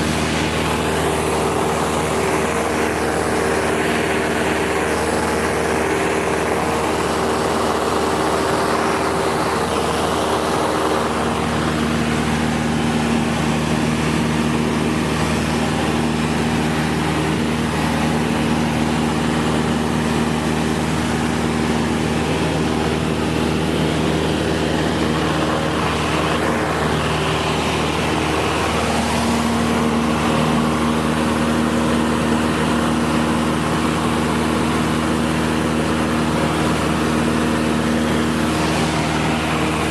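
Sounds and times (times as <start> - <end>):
airflow rushing: 0.0 - 39.9
propeller plane engine droning: 0.0 - 39.9.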